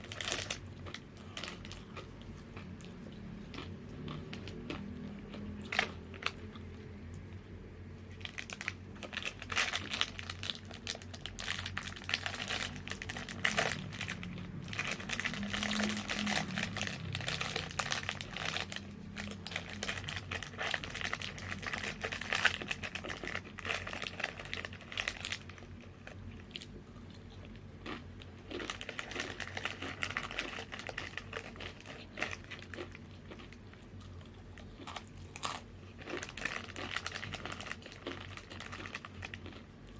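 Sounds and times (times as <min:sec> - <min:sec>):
chips crunching while chewed: 0:00.0 - 0:06.8, 0:08.1 - 0:39.9.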